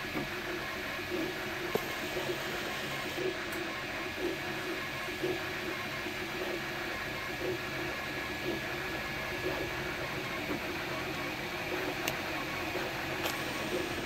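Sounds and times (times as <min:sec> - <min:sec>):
printer motors chirping: 0:00.0 - 0:14.0
printer whirring: 0:00.0 - 0:14.0.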